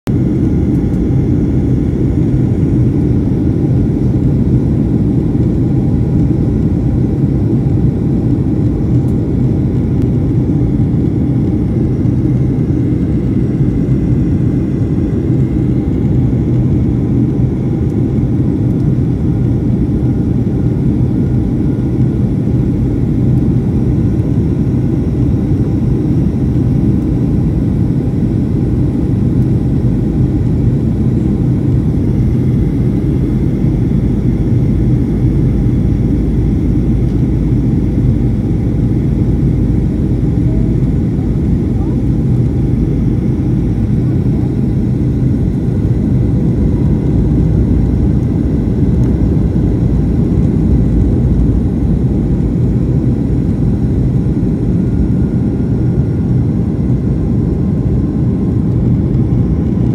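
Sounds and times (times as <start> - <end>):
jet cabin engine rumble: 0.1 - 59.9.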